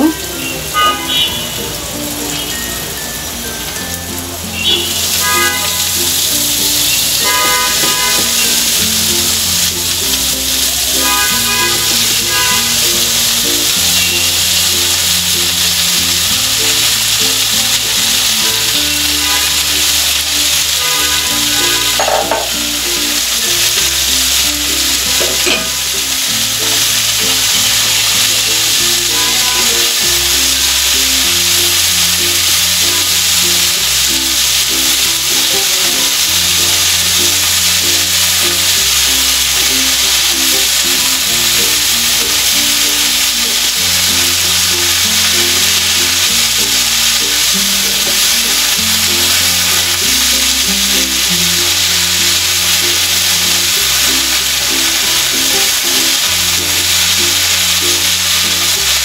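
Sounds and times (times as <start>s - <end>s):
background music: 0.0s - 59.0s
leaves sizzling in hot oil: 0.0s - 59.0s.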